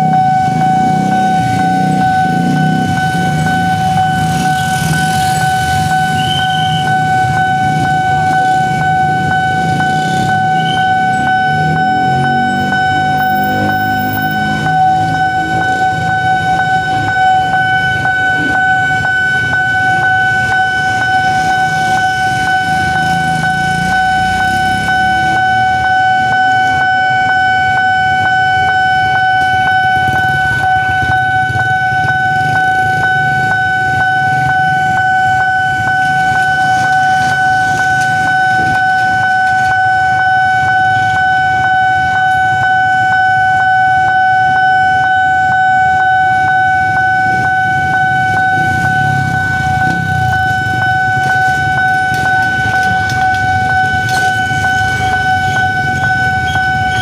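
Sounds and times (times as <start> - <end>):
motorbikes idling: 0.0 - 42.2, 45.4 - 57.0
level-crossing alarm ringing: 0.0 - 57.0.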